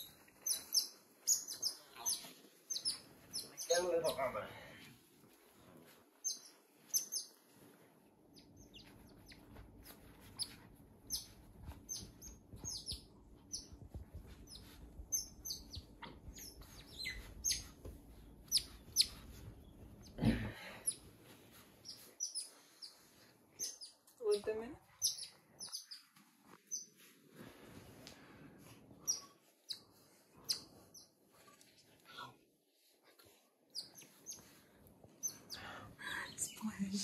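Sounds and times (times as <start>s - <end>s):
otters chirping: 0.0s - 4.4s, 6.1s - 27.0s, 29.0s - 32.3s, 33.2s - 37.0s
rustling of bedding: 0.0s - 35.9s.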